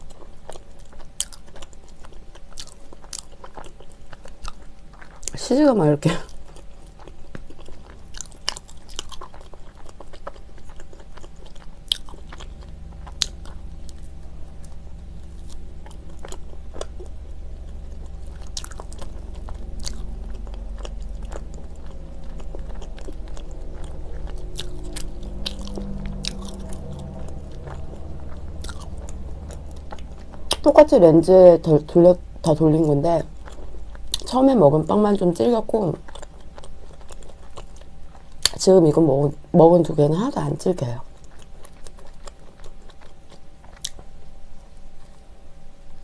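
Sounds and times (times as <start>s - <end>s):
person chewing bread: 0.0s - 5.5s, 6.2s - 30.9s, 32.0s - 34.4s, 35.2s - 38.6s, 41.0s - 46.0s.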